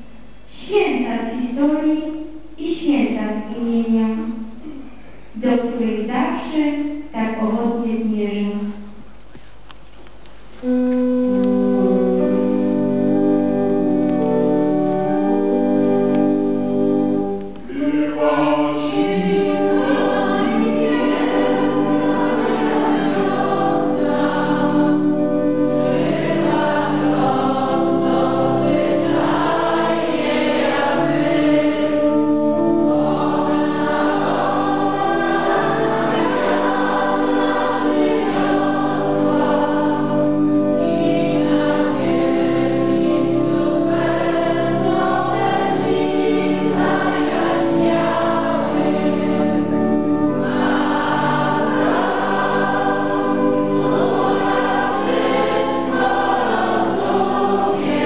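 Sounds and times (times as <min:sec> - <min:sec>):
organ chords: 0:10.5 - 0:58.0
choir singing a hymn: 0:10.6 - 0:58.0.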